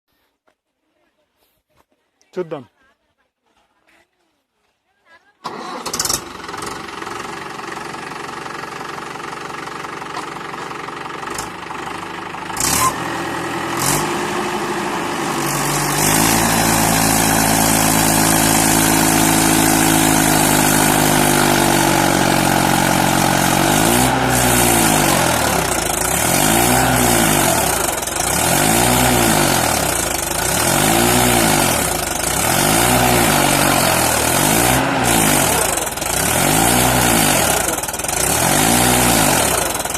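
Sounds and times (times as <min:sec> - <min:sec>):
tractor diesel engine revving: 0:05.4 - 0:39.9.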